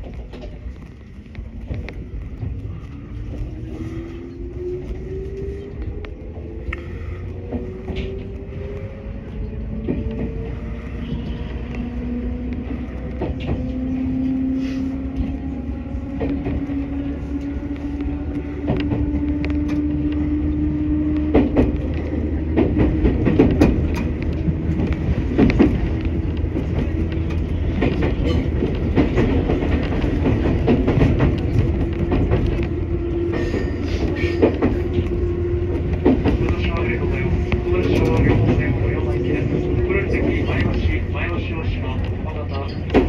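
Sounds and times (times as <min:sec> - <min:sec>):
train wheels clacking over rail joints: 0:06.8 - 0:08.9, 0:09.7 - 0:43.0.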